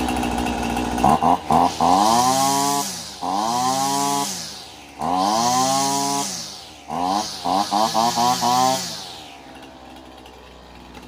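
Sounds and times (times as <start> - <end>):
string trimmer engine sputtering: 0.0 - 11.0.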